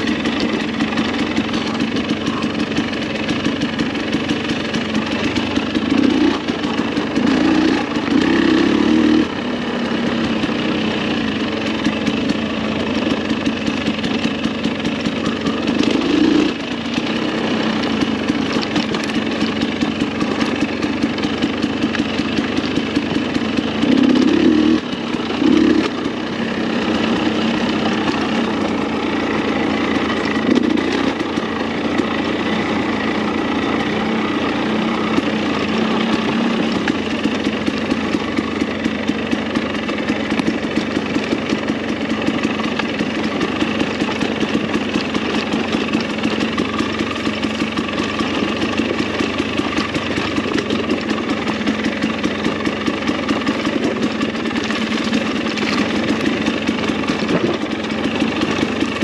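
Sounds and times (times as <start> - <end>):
dirt bike engine at low revs: 0.0 - 59.0.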